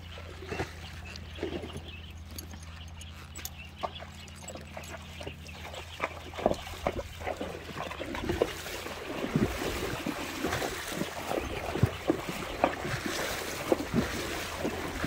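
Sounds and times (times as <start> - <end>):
hooves splashing in water: 0.0 - 15.0.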